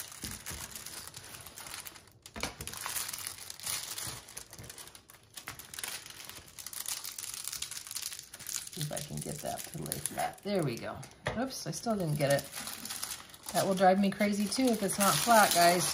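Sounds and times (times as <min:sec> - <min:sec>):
plastic film crinkling: 0:00.0 - 0:15.9.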